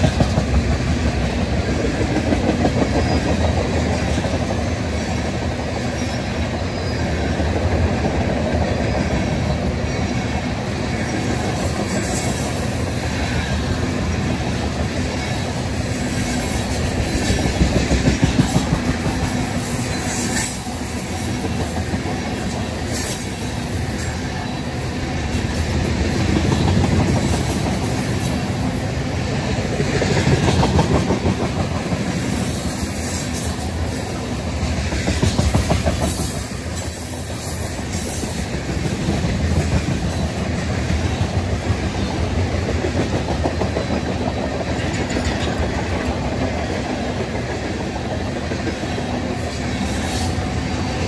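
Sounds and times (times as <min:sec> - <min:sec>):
steel wheels rumbling on rails: 0:00.0 - 0:51.0.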